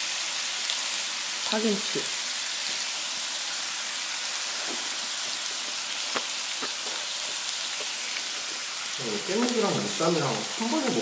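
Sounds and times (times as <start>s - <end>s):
meat sizzling on a griddle: 0.0s - 11.0s.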